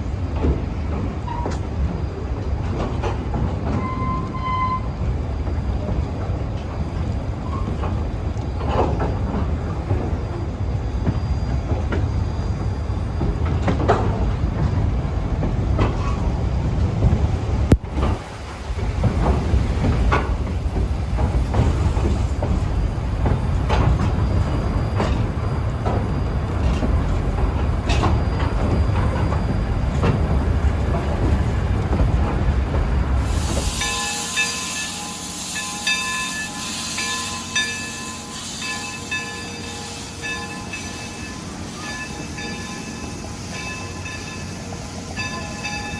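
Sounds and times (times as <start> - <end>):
railroad cars rumbling on track: 0.0 - 45.9.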